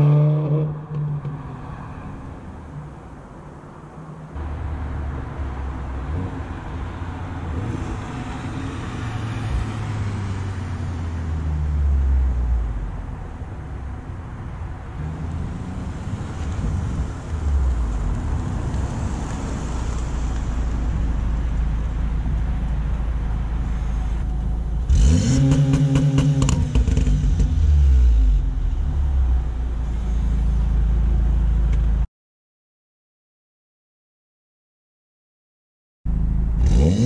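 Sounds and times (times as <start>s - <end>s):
car engine idling and revving: 0.0s - 32.1s, 36.1s - 37.0s.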